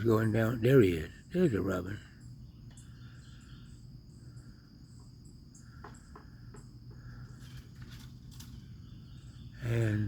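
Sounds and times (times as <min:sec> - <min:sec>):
faint bird chirps: 0:00.0 - 0:10.0
high-pitched insect trill: 0:00.0 - 0:10.0.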